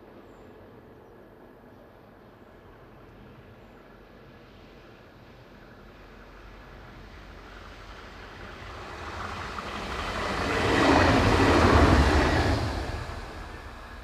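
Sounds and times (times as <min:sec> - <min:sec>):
diesel train passing: 0:02.5 - 0:14.0.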